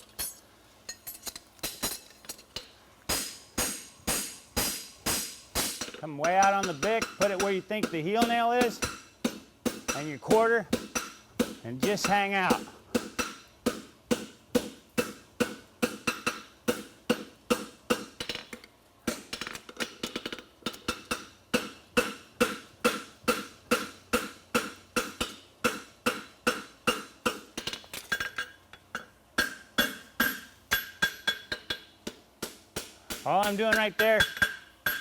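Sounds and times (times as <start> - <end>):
hammer striking steel on anvil: 2.6 - 18.4, 20.7 - 35.0.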